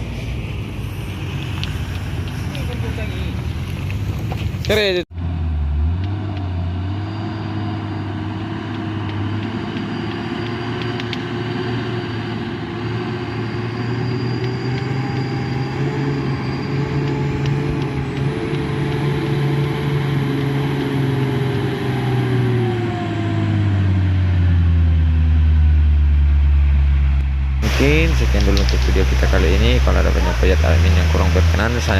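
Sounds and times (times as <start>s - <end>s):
deep engine drone: 0.0s - 31.9s
heavy vehicle engine under load: 0.0s - 31.9s.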